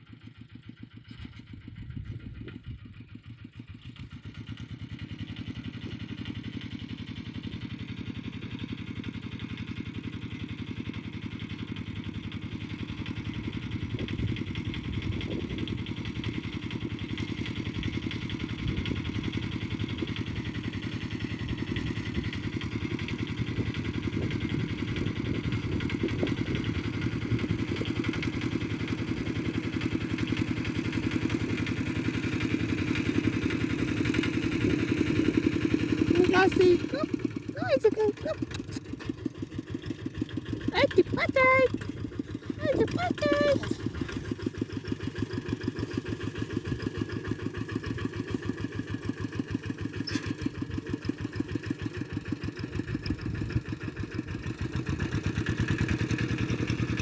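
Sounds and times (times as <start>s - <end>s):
tractor engine under load: 0.1s - 57.0s.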